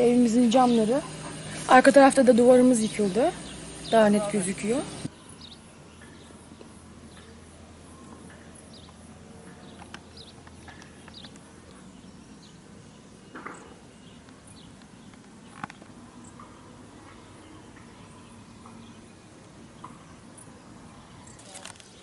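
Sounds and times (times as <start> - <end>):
bird chirps: 0.0 - 22.0.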